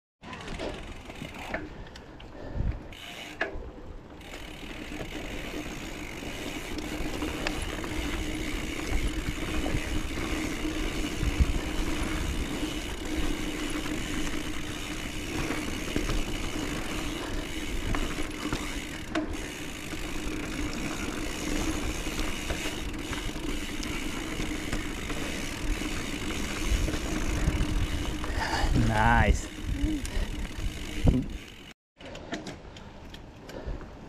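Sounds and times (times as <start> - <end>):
bike rattles and clicks: 0.2 - 34.0
bike tyres on dirt trail: 0.2 - 34.0.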